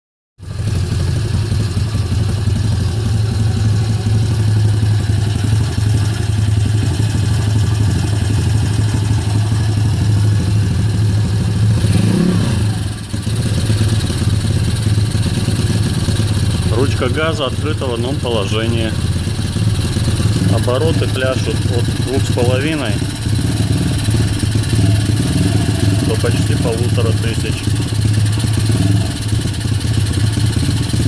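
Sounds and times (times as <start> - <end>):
motorcycle engine revs hunting: 0.4 - 31.0.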